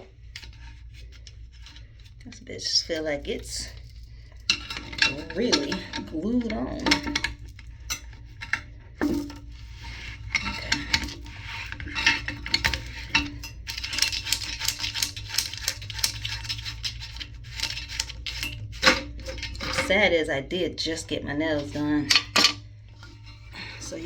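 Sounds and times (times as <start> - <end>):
plastic parts clicking and scraping: 0.0 - 20.3, 21.2 - 24.0
low steady hum: 0.0 - 24.0.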